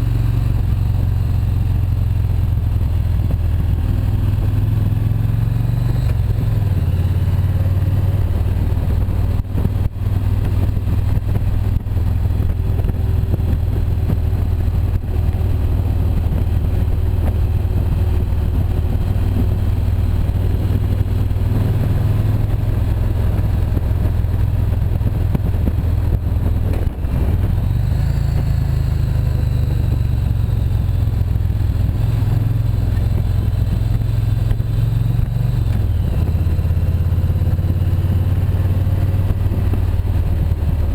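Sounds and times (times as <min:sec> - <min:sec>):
motorcycle engine rumble: 0:00.0 - 0:40.9
wind on microphone: 0:04.4 - 0:40.9.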